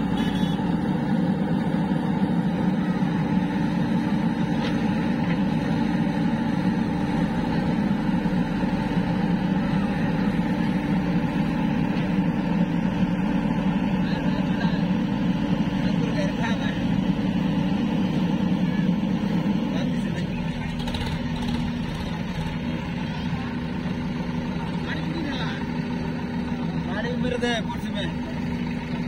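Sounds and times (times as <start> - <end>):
diesel engines droning steadily: 0.0 - 29.0.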